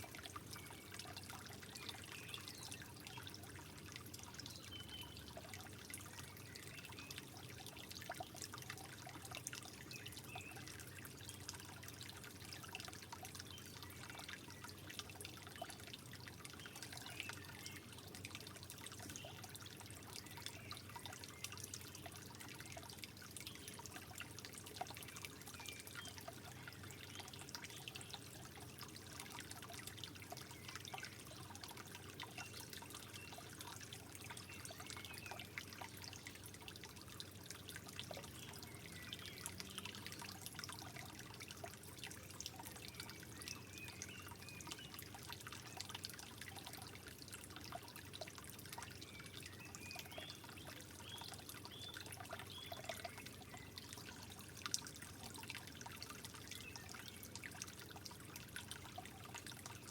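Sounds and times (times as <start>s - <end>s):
water trickling and bubbling: 0.0s - 59.9s.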